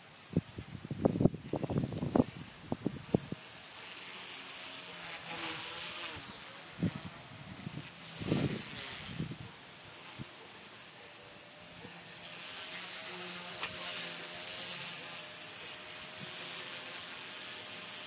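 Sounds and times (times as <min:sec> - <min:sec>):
rc helicopter motor whine: 0:00.0 - 0:18.0.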